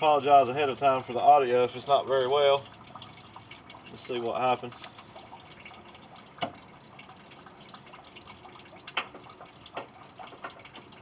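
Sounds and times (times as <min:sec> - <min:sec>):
liquid dripping and trickling: 0:00.0 - 0:11.0.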